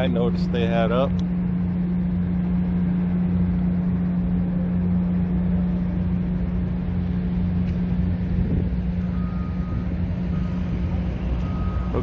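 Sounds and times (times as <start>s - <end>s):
engine humming: 0.0s - 12.0s
road traffic noise: 0.0s - 12.0s.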